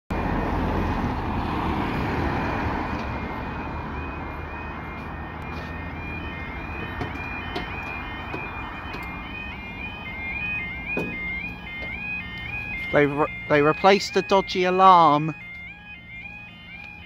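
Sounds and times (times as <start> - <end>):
car passing: 0.1 - 17.0
level crossing warning alarm: 0.1 - 17.0.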